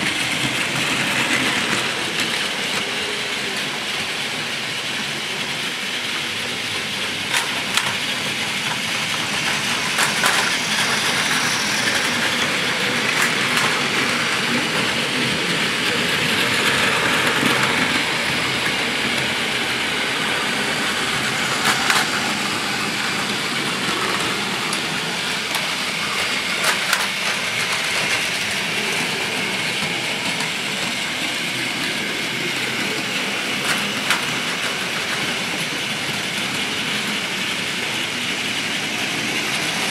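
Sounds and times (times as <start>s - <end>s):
toy train motors whirring: 0.0s - 39.9s
wheels rattling on plastic track: 0.0s - 39.9s.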